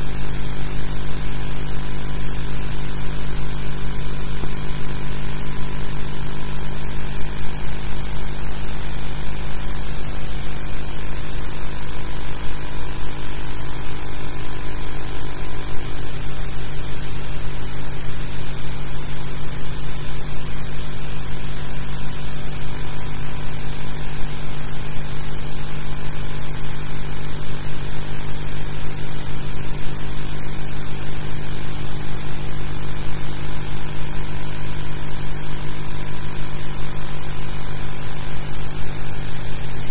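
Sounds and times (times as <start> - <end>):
constant hiss: 0.0 - 39.9.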